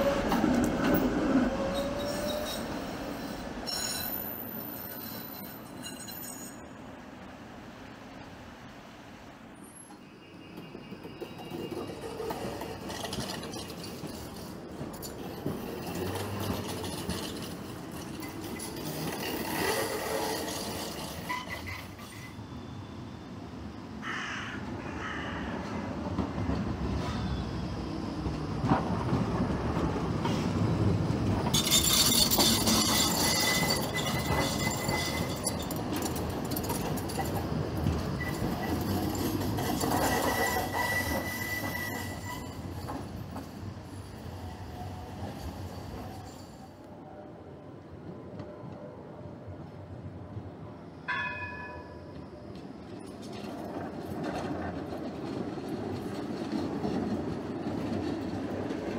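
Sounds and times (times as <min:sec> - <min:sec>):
wheels squealing on rails: 0:00.0 - 0:07.3, 0:09.3 - 0:24.0, 0:24.8 - 0:47.6, 0:48.3 - 0:58.9
tram rumbling on rails: 0:00.0 - 0:58.9.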